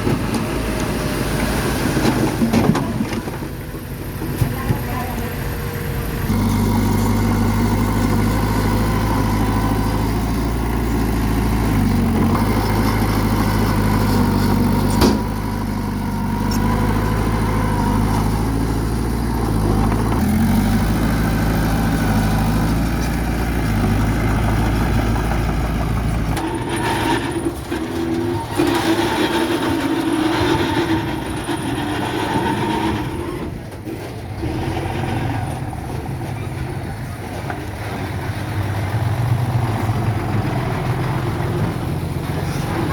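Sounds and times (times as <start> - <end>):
bulldozer diesel engine humming: 0.0 - 42.9
rough uneven machine noise: 0.0 - 42.9.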